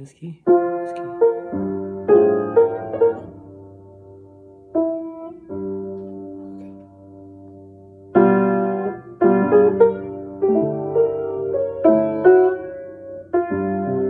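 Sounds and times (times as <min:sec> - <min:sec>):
piano chords and melody: 0:00.4 - 0:14.0.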